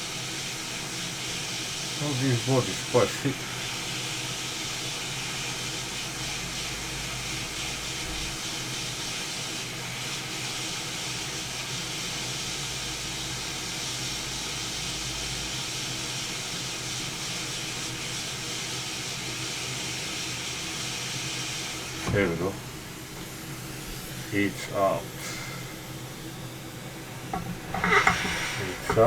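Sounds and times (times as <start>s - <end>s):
hot air blower hissing: 0.0s - 29.0s.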